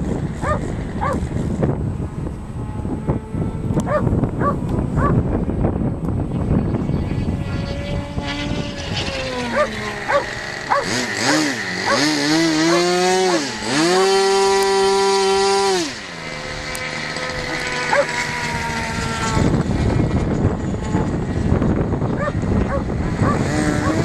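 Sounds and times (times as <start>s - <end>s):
model aircraft engine revving: 0.0s - 24.0s
wind noise: 0.0s - 24.0s.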